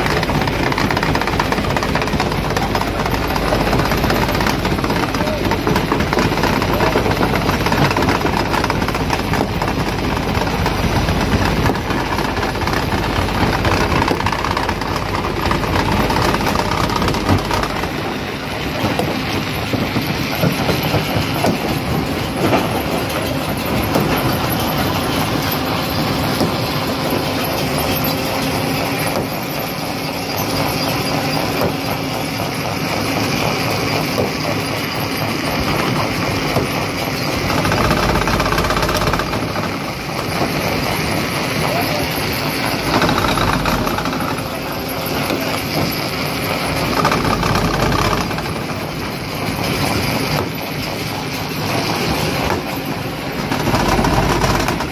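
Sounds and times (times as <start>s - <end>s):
rock crusher crushing stone: 0.0s - 54.9s.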